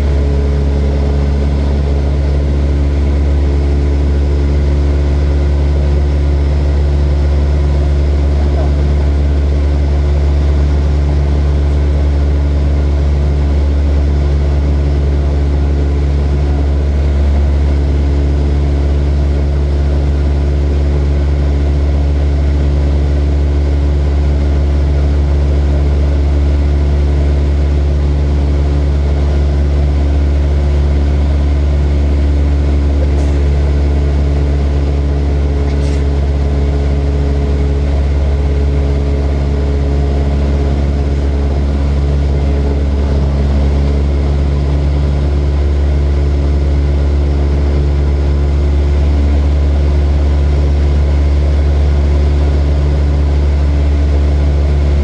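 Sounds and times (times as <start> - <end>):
propeller airplane engine drone: 0.0 - 55.0.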